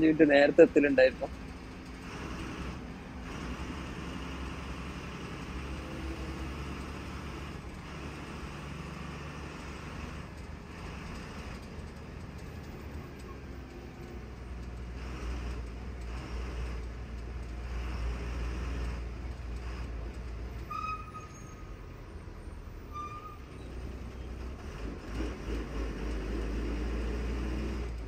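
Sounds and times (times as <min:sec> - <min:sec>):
bus engine drone: 0:00.0 - 0:28.0
road and tyre noise: 0:00.0 - 0:28.0.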